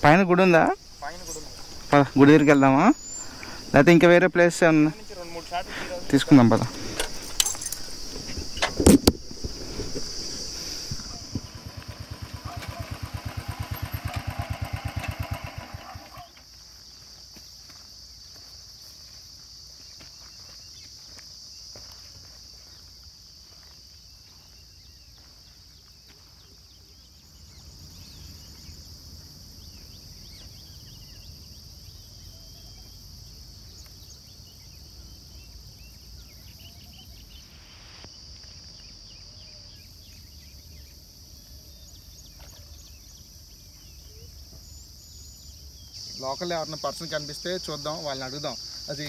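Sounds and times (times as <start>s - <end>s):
insects buzzing chorus: 0.0s - 49.0s.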